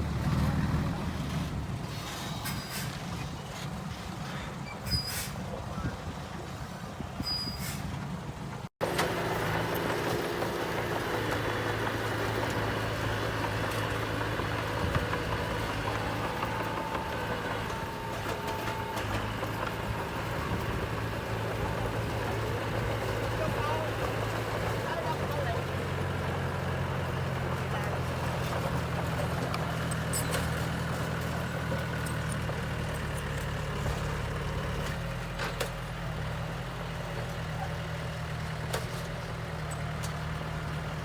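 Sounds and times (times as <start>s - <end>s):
heavy machinery diesel engine: 0.0s - 41.0s.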